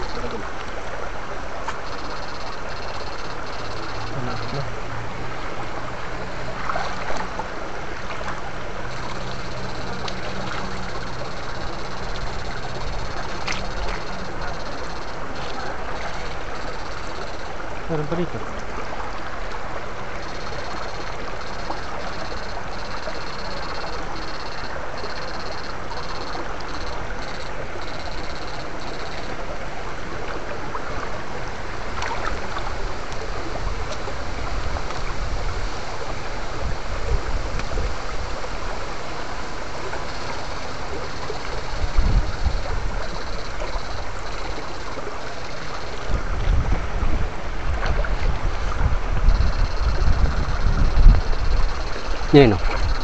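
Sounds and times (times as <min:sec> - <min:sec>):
faint high whine: 0:00.0 - 0:47.2
stream rushing over rocks: 0:00.0 - 0:53.0.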